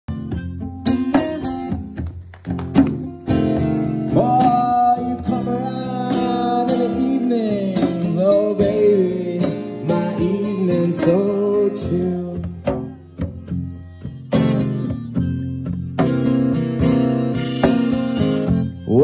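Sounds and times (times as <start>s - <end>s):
acoustic guitar strumming blues: 0.1s - 19.0s.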